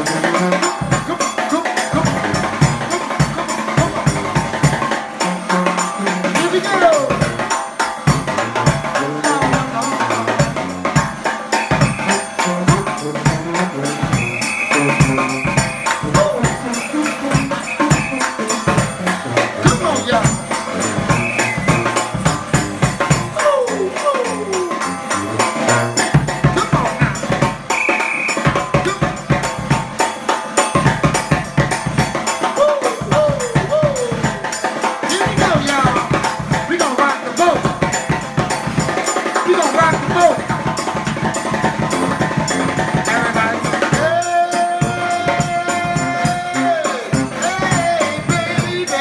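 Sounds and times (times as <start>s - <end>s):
brass band playing: 0.0s - 49.0s
drums and percussion beat: 0.0s - 49.0s.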